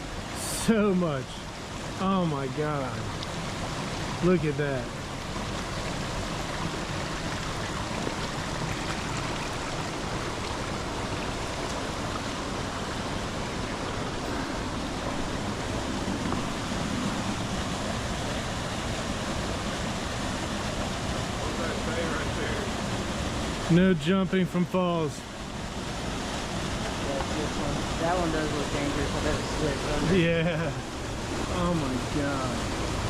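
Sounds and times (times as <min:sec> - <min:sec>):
waterfalls rushing: 0:00.0 - 0:33.0.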